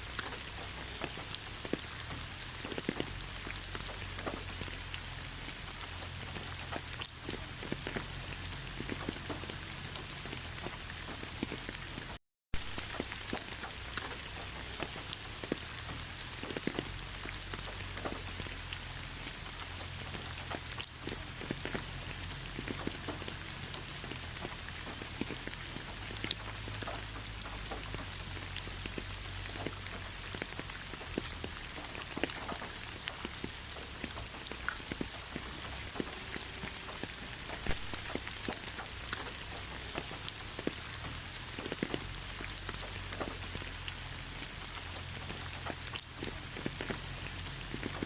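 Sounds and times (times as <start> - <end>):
raindrops ticking on hard surface: 0.0 - 48.0
steady rain: 0.0 - 48.0.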